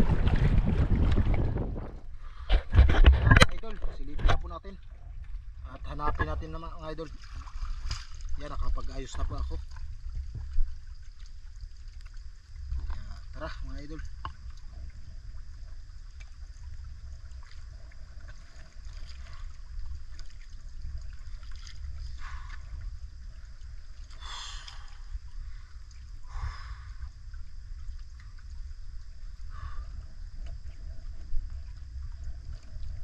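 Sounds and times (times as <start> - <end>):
paddle splashing in water: 0.0 - 4.4, 7.0 - 33.0
steady low rumble: 0.0 - 33.0.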